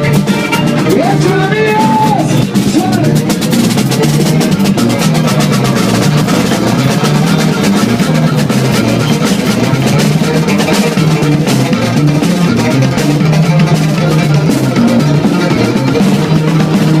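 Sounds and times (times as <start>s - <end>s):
music with busy drum beat: 0.0s - 17.0s
repeating bass line: 0.0s - 17.0s.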